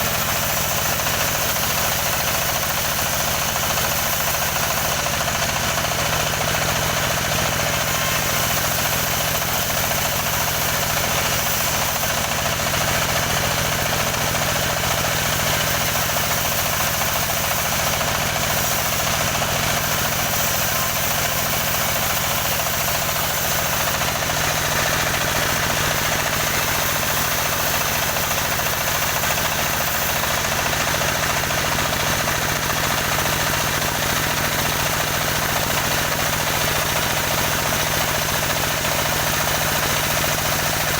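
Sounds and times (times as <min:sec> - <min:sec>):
sawing machine engine running: 0:00.0 - 0:40.9.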